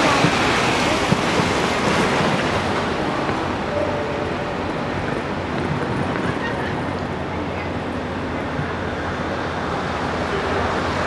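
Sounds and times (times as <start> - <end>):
steady traffic hum: 0.1 - 11.0.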